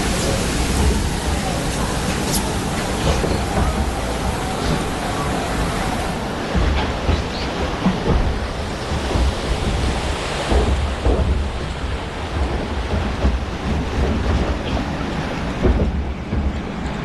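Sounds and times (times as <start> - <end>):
low rumbles: 0.0 - 17.0
water rushing and splashing: 0.0 - 17.0.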